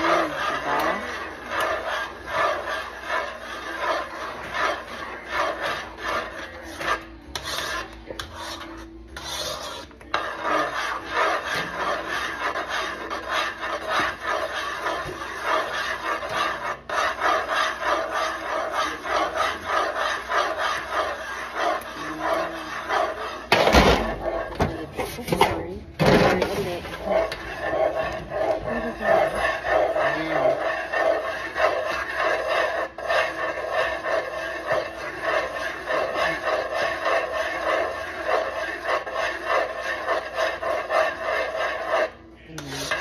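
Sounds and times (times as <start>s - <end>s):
utensil scraping bottom of pot: 0.0s - 43.0s.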